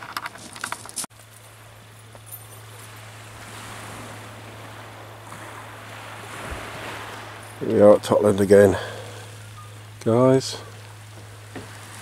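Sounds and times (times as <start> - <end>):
sea washing on shingle: 0.0 - 12.0
low hum: 1.2 - 12.0.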